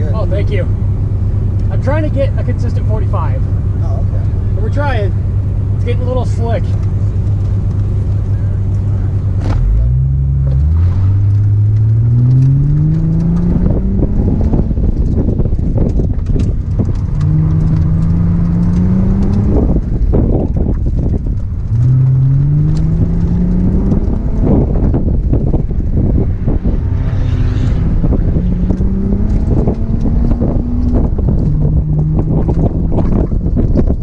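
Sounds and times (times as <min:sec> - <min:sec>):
car engine revving: 0:00.0 - 0:34.0
wind and road noise: 0:00.0 - 0:34.0.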